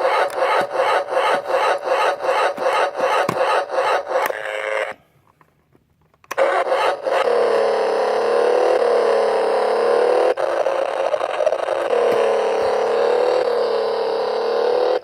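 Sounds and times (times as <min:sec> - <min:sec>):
toy engine sound effect drone: 0:00.0 - 0:05.0, 0:06.3 - 0:15.0.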